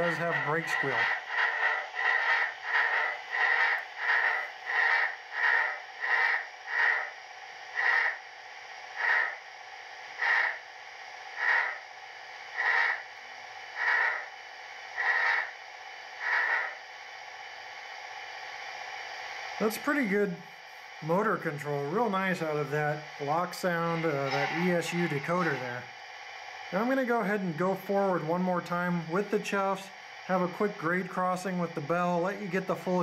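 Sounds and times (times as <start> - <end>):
model steam locomotive chuffs: 0.0 - 8.3, 8.9 - 9.5, 10.1 - 10.7, 11.3 - 11.8, 12.5 - 16.8, 19.6 - 26.0, 26.6 - 33.0.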